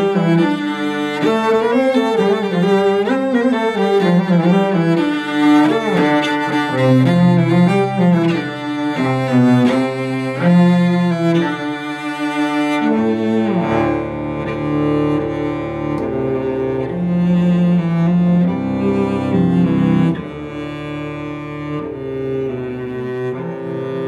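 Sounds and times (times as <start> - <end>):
cellos playing bowed duet: 0.0 - 24.0.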